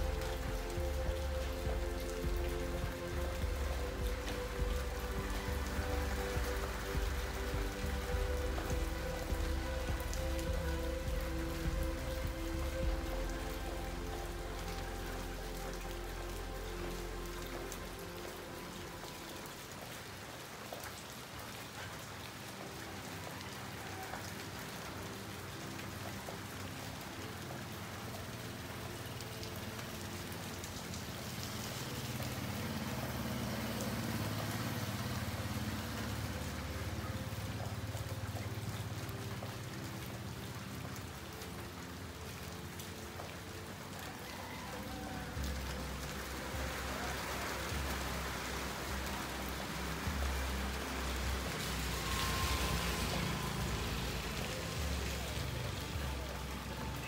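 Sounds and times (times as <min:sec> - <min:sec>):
steady rain on roofs: 0:00.0 - 0:57.0.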